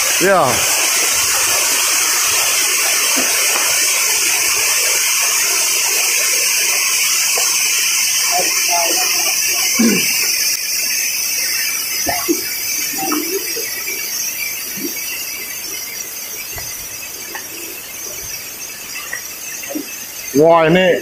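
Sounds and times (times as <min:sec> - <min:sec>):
cicada chorus shrilling: 0:00.0 - 0:21.0.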